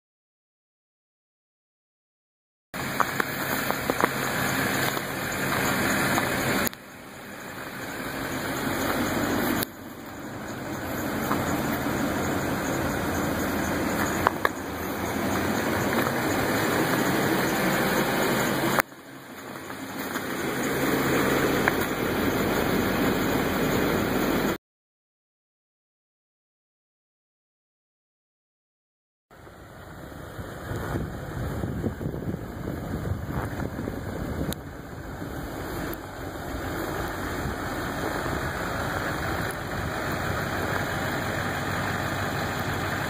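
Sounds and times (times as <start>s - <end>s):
diesel truck engine idling: 2.8s - 24.6s, 29.3s - 43.0s
steady rushing hiss: 2.8s - 24.6s, 29.4s - 43.0s.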